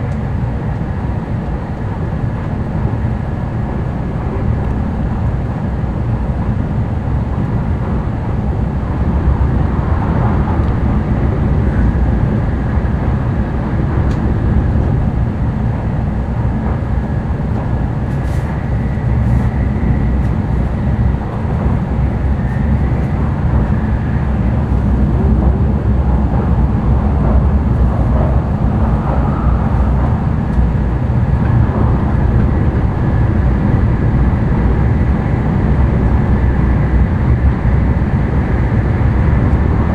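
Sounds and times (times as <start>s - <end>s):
train cabin low rumble: 0.0s - 39.9s.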